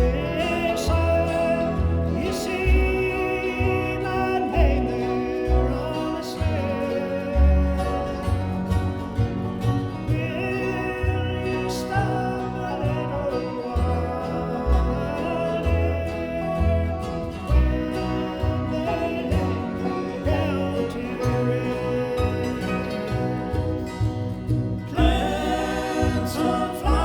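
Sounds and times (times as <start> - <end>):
bluegrass band playing: 0.0 - 27.0
plucked bass notes: 0.0 - 27.0.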